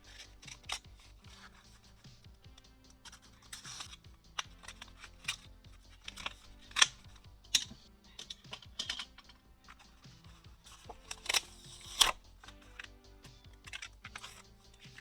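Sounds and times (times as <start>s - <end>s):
plastic sleeves and card handled: 0.0s - 15.0s
soft background music: 0.0s - 15.0s.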